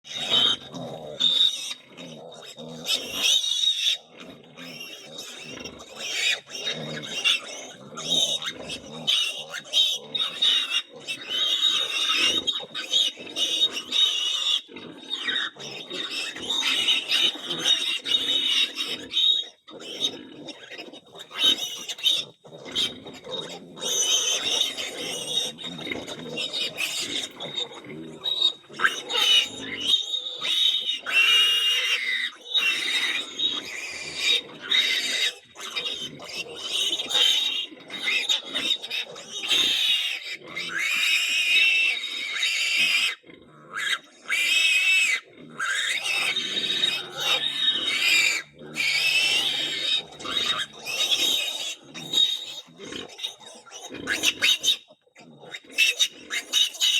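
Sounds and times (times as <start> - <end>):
farm animals crying high-pitched: 0.0 - 56.9
pigs squealing: 0.0 - 56.9.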